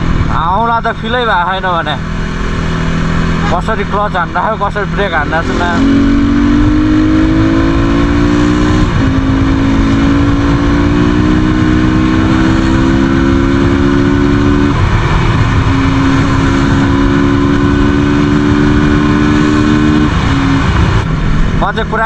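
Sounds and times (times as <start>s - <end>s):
motorcycle engine accelerating: 0.0s - 21.9s
steady low rush: 0.0s - 22.0s.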